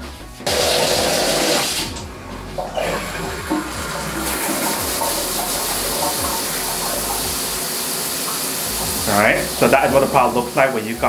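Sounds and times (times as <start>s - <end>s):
shower water spraying: 0.4s - 11.0s.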